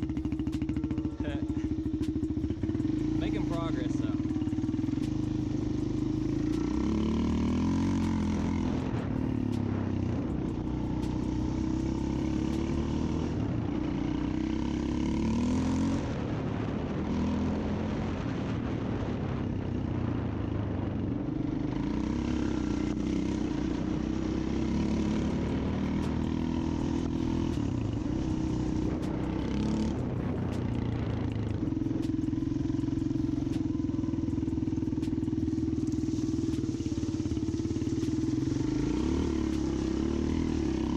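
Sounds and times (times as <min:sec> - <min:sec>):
small engine revving: 0:00.0 - 0:20.2, 0:21.2 - 0:40.9.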